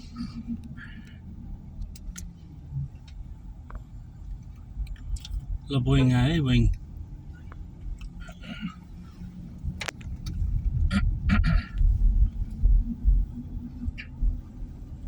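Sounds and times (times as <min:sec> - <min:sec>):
car rumbling along road: 0:00.0 - 0:15.0.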